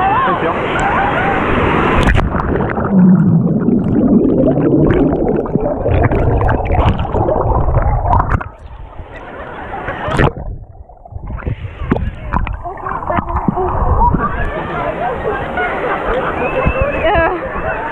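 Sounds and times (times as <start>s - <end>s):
water churning and gurgling: 0.2s - 17.7s.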